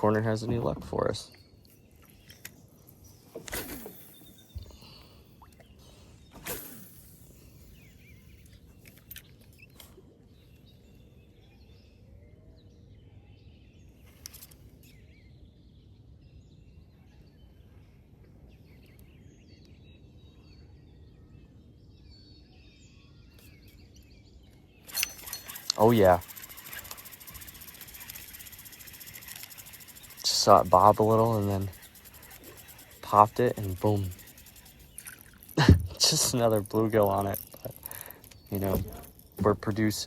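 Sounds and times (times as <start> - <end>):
faint bird chirps: 0.0 - 40.0.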